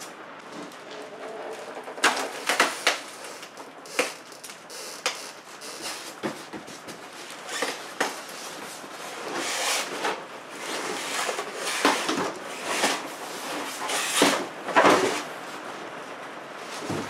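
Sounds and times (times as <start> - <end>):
styrofoam and cardboard scraping: 0.5 - 15.4.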